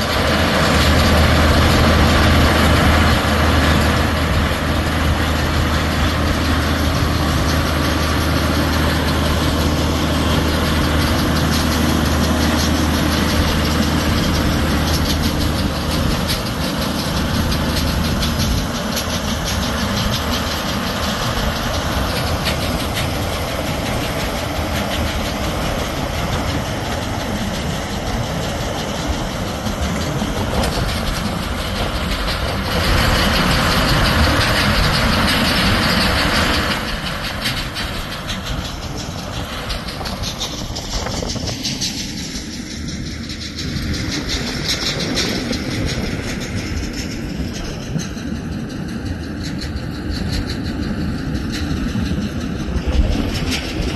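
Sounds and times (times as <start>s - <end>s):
baler mechanical clatter: 0.0s - 53.9s
tractor diesel engine running: 0.0s - 53.9s.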